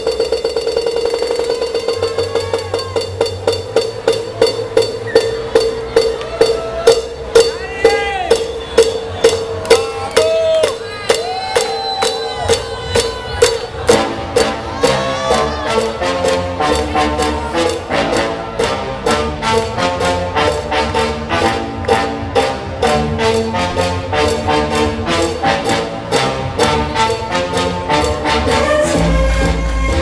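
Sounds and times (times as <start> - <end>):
bass: 0.0 - 30.0
electronic dance music: 0.0 - 30.0.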